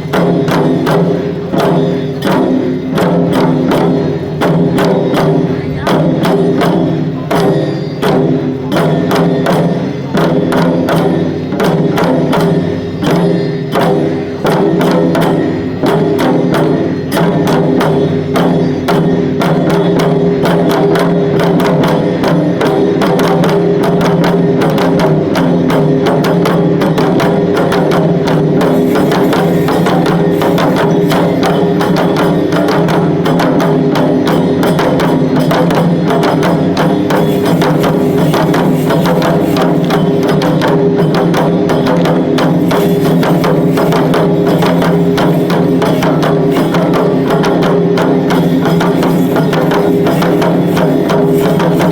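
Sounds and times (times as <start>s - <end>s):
taiko drumming: 0.0s - 51.9s.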